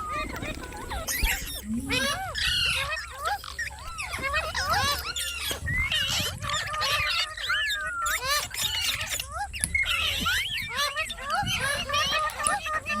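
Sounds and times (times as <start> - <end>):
parrots squawking and chirping: 0.0 - 13.0.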